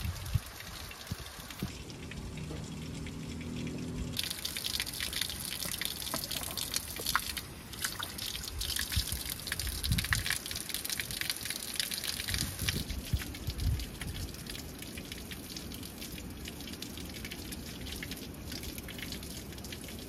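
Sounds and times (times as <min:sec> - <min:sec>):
water spatters and drips: 0:00.0 - 0:20.0
tap water splashing onto stone: 0:01.1 - 0:20.0.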